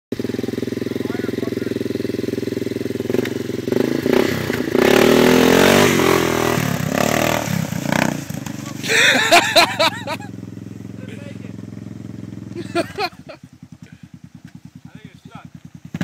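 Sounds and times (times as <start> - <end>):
quad bike engine idling and revving: 0.1 - 16.0.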